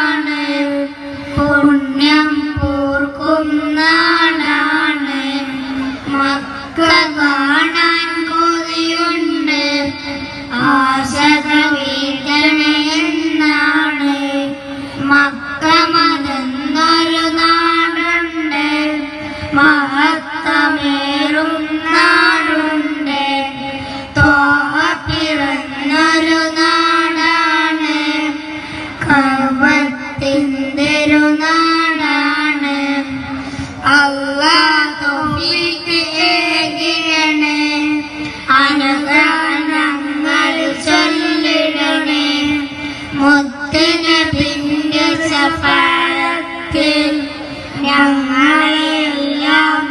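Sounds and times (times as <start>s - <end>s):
boys singing into microphones: 0.0s - 49.9s.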